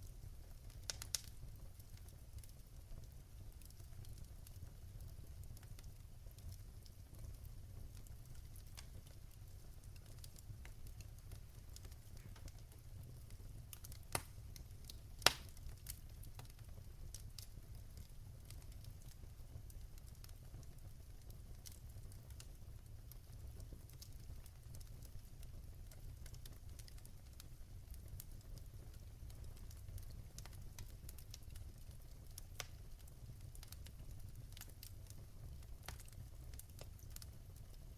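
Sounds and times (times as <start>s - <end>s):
fire crackling in fireplace: 0.0s - 37.9s.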